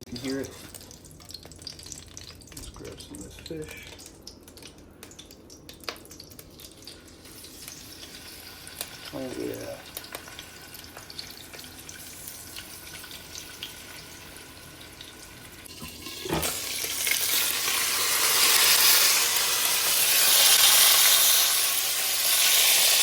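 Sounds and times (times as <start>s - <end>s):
fish frying in oil: 0.0s - 23.0s.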